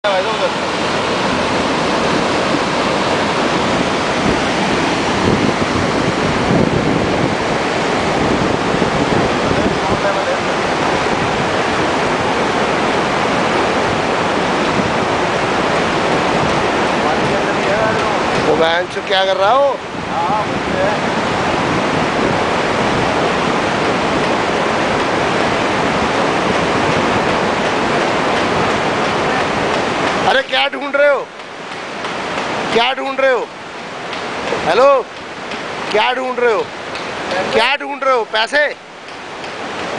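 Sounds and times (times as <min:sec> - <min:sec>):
water rushing into concrete canal: 0:00.0 - 0:39.9.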